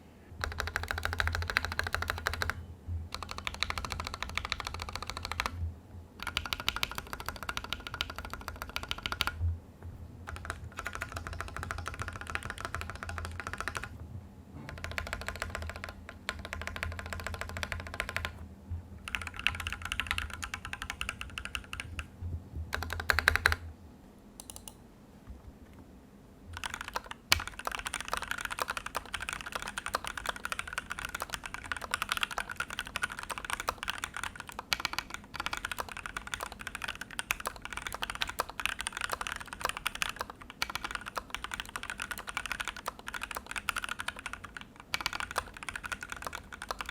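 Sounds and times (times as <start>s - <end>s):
mechanical keyboard typing: 0.4s - 5.6s, 6.2s - 9.4s, 10.3s - 14.0s, 14.7s - 18.4s, 19.0s - 22.1s, 22.7s - 23.6s, 24.4s - 24.8s, 26.6s - 46.9s.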